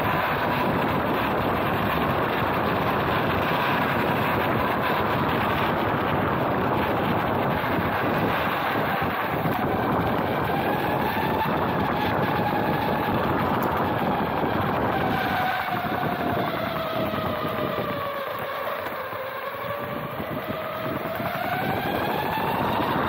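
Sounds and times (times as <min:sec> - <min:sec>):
electric motors whining: 0:00.0 - 0:23.0
wheels rolling on pavement: 0:00.0 - 0:23.0
wind on microphone: 0:00.0 - 0:23.0.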